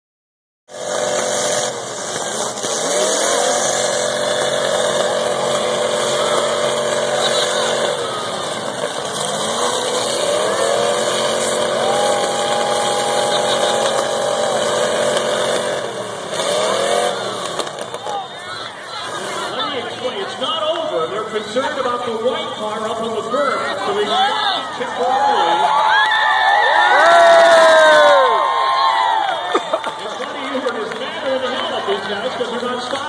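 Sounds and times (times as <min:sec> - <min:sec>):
car engines revving: 0:00.7 - 0:33.0.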